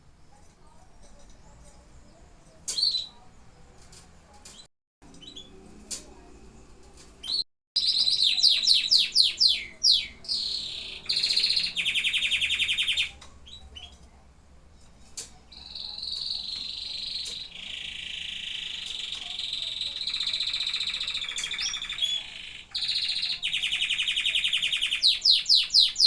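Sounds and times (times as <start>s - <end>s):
canary singing and trilling: 0.3s - 5.6s, 7.2s - 26.0s.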